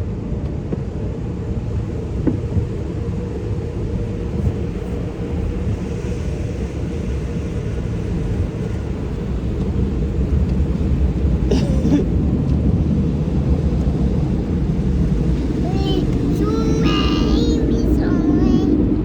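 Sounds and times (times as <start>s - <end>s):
car wash low rumble: 0.0s - 19.0s.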